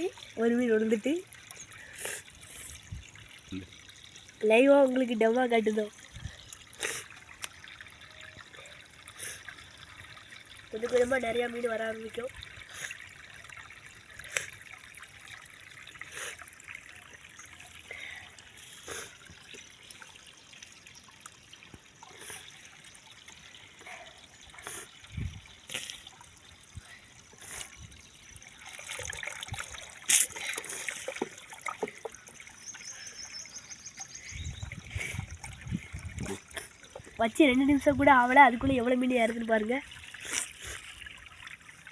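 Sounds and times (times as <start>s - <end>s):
small water splashes: 0.0s - 41.9s
stream trickling over stones: 0.0s - 41.9s.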